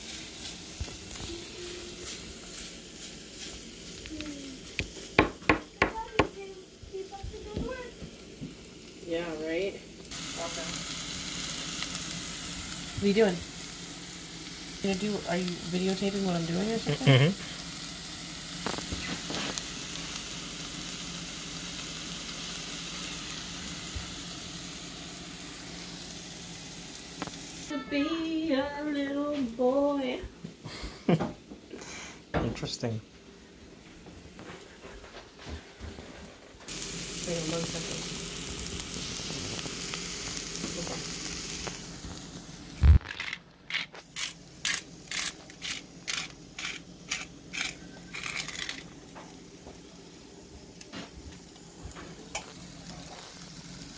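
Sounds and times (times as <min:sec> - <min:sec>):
vegetables sizzling in a pot: 0:00.0 - 0:53.9.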